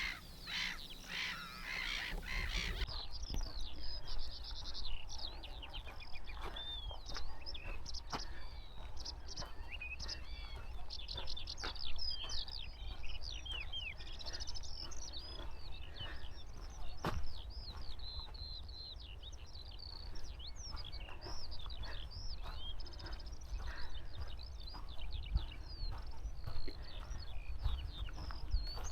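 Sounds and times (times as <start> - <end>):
skylark singing: 0.0 - 28.9.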